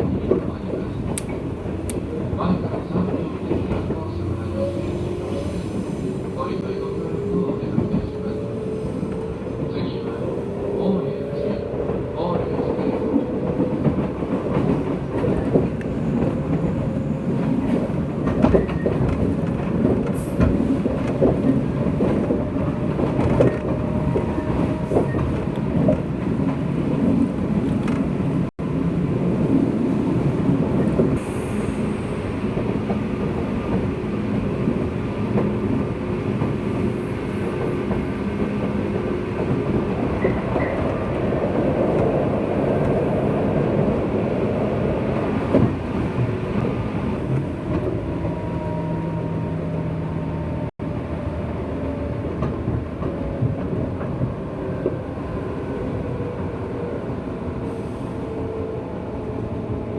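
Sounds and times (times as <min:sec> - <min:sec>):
train interior rumble: 0:00.0 - 0:59.9
train running gear hum: 0:00.0 - 0:59.9.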